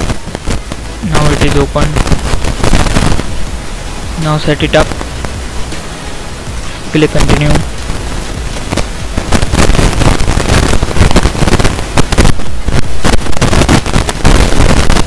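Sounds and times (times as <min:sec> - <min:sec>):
crackling and popping noise: 0:00.0 - 0:15.0
low rumble: 0:00.0 - 0:15.0.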